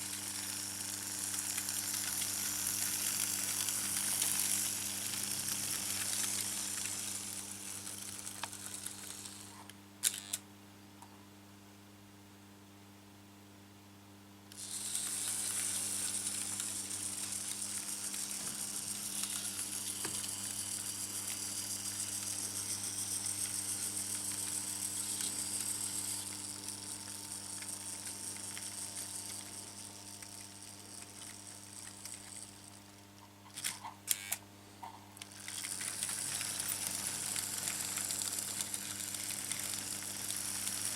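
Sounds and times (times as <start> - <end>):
model train hissing rattle: 0.0 - 9.2, 14.5 - 32.8, 35.3 - 40.9.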